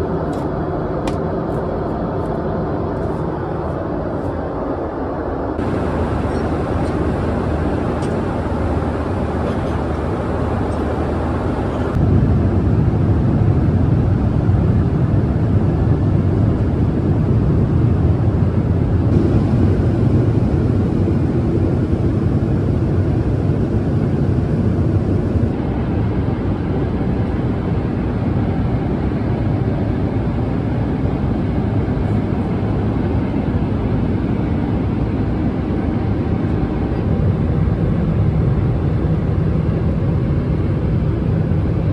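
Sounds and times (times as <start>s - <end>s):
airplane cabin engine hum: 0.0s - 41.9s.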